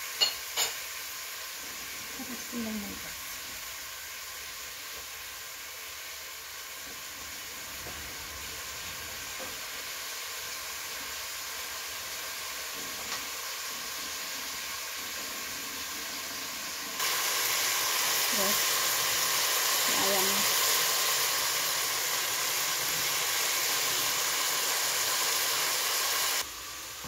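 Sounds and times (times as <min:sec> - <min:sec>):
shallots and garlic frying in oil: 0:00.0 - 0:27.0.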